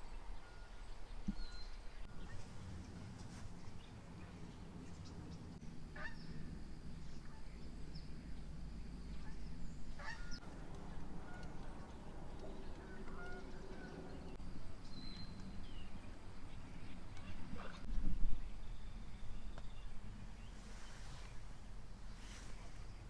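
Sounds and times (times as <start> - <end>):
steady low hum: 1.8 - 23.0.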